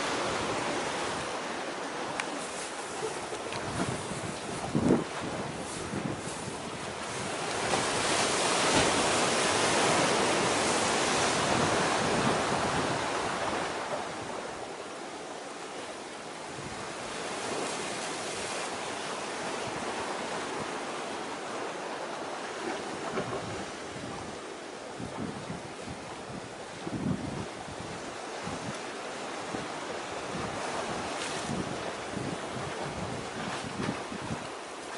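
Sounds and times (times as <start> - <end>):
wind and sea rushing: 0.0 - 34.9.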